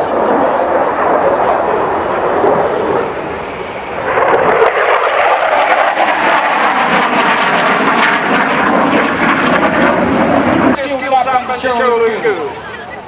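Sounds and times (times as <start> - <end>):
airplane engine roar: 0.0 - 13.0.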